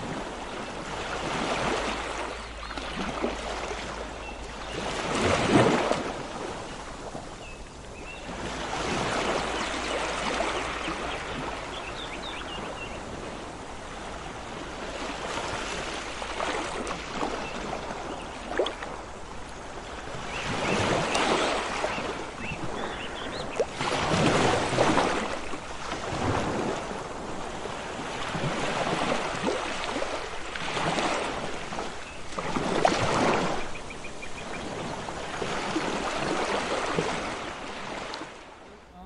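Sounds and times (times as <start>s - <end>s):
seawater splashing around waders: 0.0s - 7.2s, 14.0s - 39.0s.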